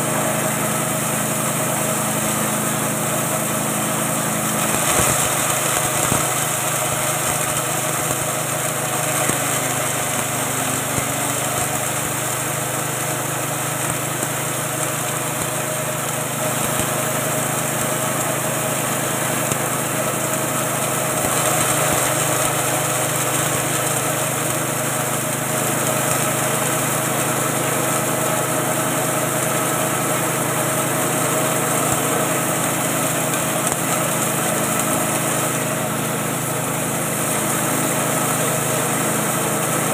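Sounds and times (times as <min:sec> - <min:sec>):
grinding mill: 0:00.0 - 0:39.9
petrol engine running under load: 0:00.0 - 0:39.9.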